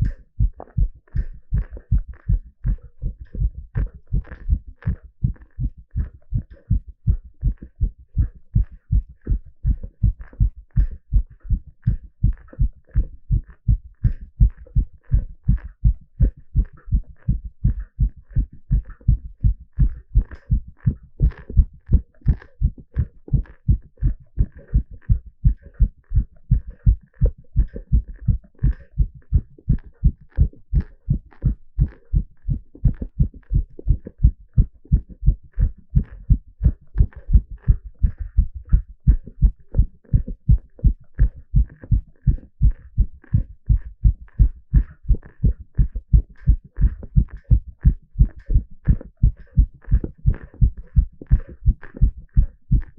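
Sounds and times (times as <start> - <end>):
heartbeat through stethoscope: 0.0 - 52.9.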